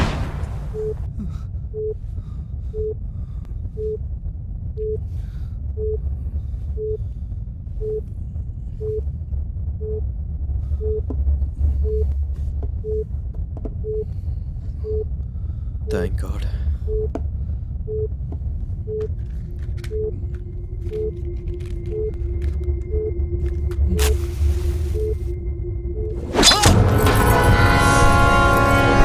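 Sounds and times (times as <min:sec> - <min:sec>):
low rumble: 0:00.0 - 0:29.0
low-pitched alarm beeps: 0:00.6 - 0:26.6.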